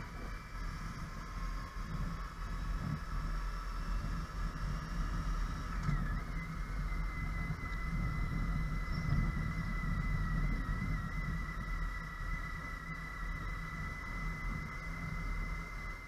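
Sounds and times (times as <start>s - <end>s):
engine and road noise rumble: 0.0s - 16.0s
thin high whine: 0.0s - 16.0s.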